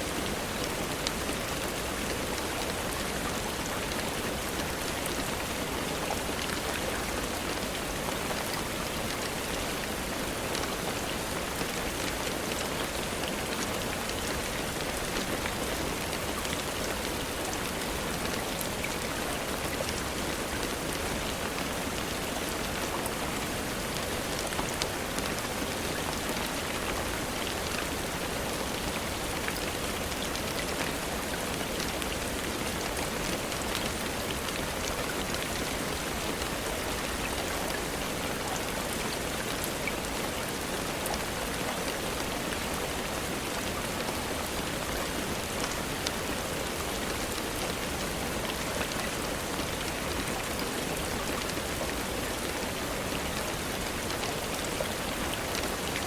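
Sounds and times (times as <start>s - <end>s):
dense rainfall: 0.0s - 56.0s.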